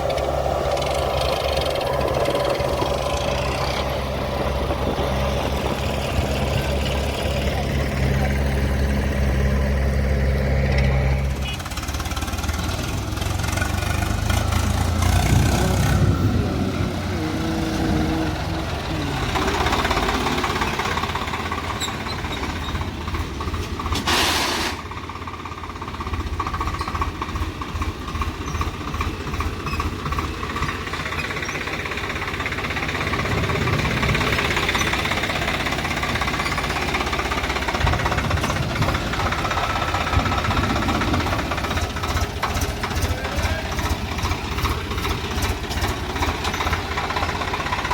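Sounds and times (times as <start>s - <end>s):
diesel engine of heavy machinery: 0.0s - 47.9s.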